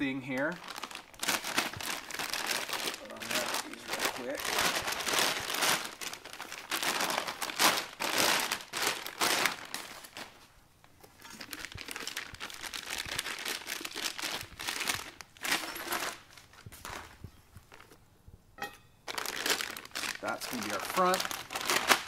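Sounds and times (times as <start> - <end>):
plastic sleeves crinkling: 0.0 - 18.0, 19.0 - 22.0.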